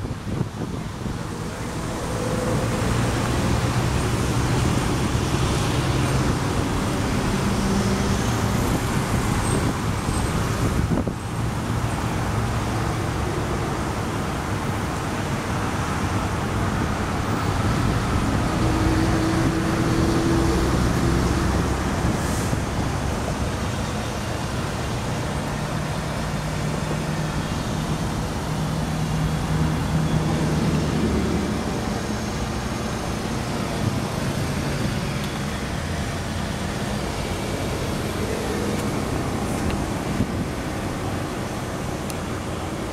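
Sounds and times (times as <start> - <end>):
traffic engine hum: 0.0 - 42.9.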